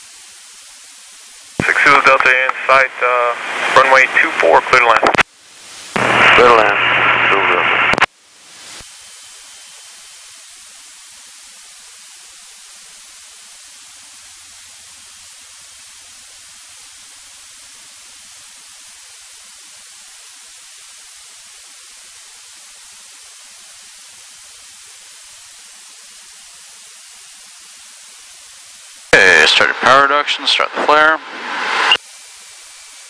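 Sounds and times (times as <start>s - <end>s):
headset audio hiss: 0.0s - 33.0s.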